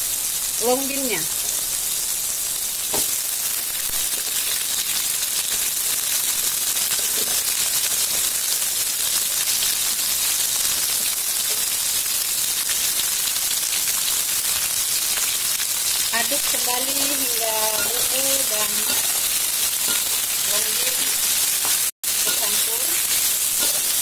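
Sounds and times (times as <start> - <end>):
hot oil sizzling in a wok: 0.0 - 24.0.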